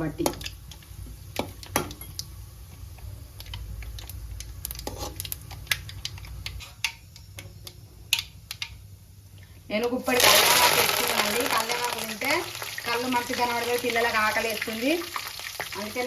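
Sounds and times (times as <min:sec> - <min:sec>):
seeds crackling in hot oil: 0:00.0 - 0:16.0.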